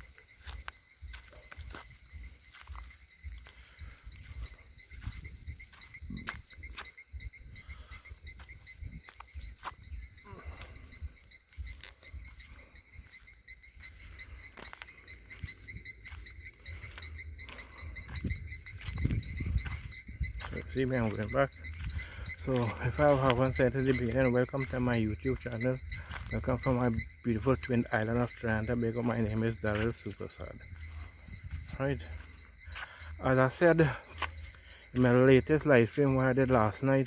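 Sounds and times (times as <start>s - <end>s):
footsteps walking: 0.0s - 36.8s
frogs calling: 0.0s - 37.0s.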